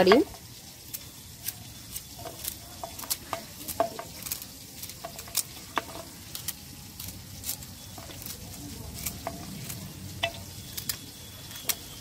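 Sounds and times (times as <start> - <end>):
knife slicing fruit: 0.8 - 12.0
slices dropping into metal bowl: 1.4 - 12.0.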